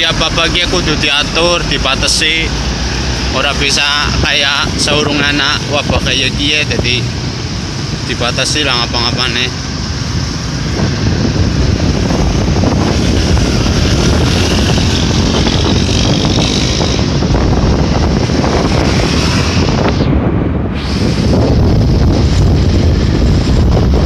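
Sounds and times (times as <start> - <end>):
motorcycle engine and road rumble: 0.0 - 24.0
wind buffeting microphone: 0.0 - 24.0.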